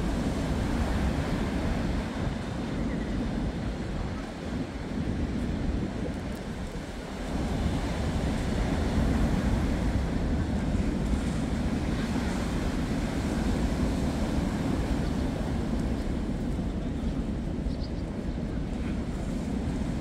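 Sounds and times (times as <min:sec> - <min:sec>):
surf breaking on a beach: 0:00.0 - 0:20.0
wind rumbling on the microphone: 0:00.0 - 0:20.0.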